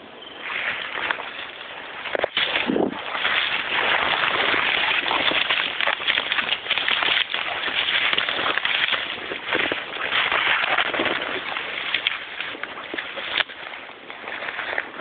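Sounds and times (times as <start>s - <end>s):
leaves and twigs rustling: 0.2s - 15.0s.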